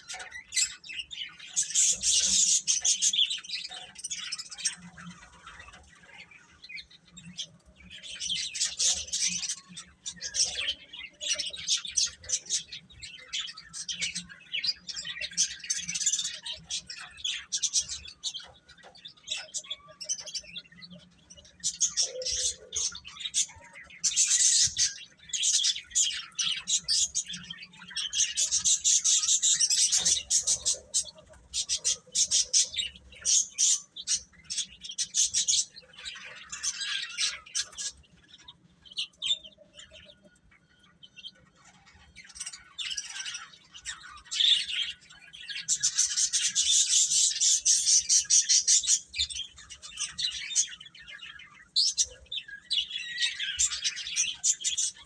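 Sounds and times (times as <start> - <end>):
baby chicks peeping: 0.0 - 55.0.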